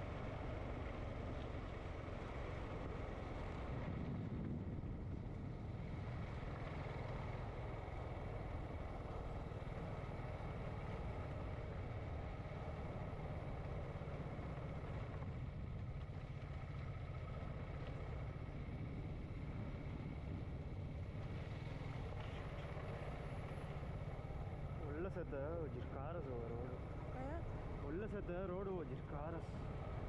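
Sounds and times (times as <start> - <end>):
motorcycle engine and road rumble: 0.0 - 30.0.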